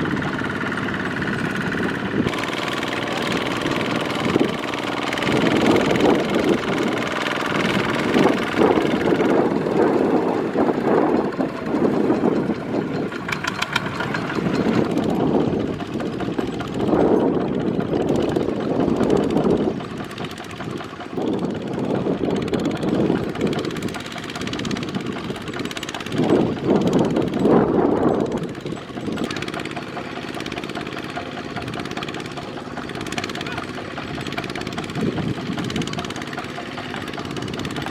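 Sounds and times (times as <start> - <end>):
diesel engine labouring: 0.0 - 37.9.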